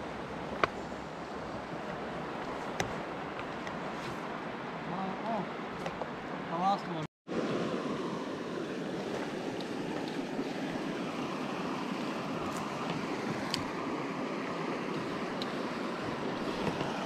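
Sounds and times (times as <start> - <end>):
river flowing over cobbles: 0.0 - 17.0.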